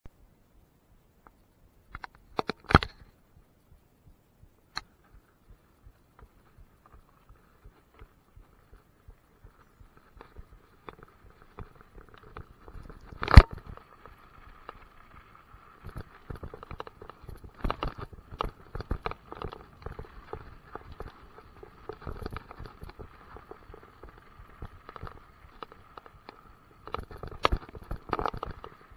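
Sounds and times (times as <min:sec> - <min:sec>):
bike rattling over gravel: 0:04.8 - 0:28.9.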